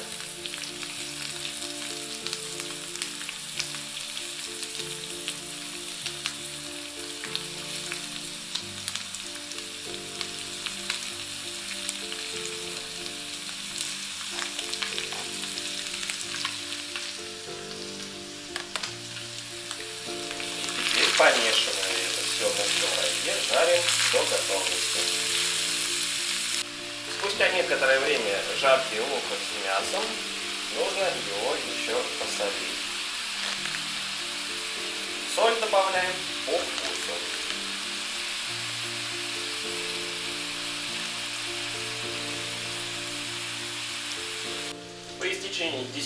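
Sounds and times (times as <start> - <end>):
onion and meat sizzling in a pan: 0.0 - 46.0
soft background music: 0.0 - 46.0.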